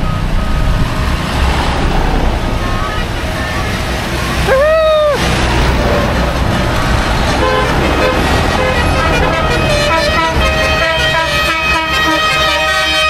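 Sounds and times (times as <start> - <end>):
horns tooting: 0.0 - 13.0
tractor engines running: 0.0 - 13.0.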